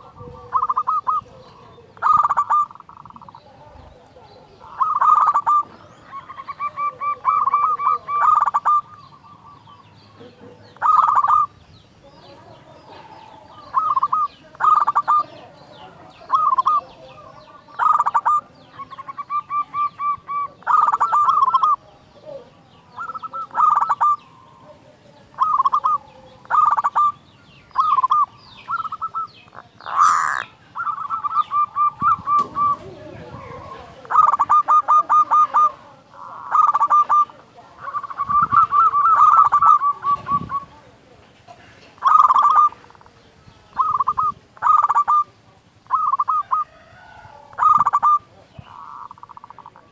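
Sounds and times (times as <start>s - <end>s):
dove cooing song: 0.0s - 49.9s
small birds chirping: 0.0s - 49.9s.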